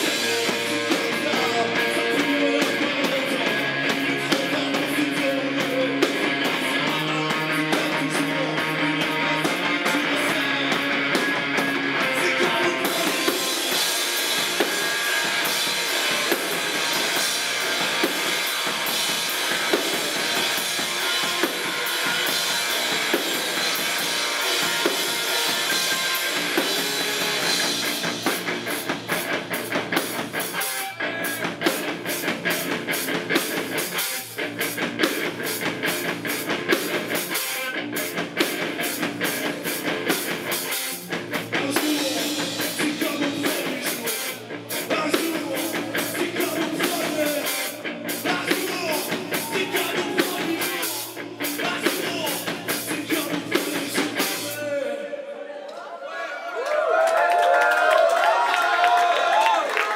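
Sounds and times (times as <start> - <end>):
drum kit: 0.0 - 54.8
electric guitar: 0.0 - 55.2
rock band playing live: 0.0 - 55.2.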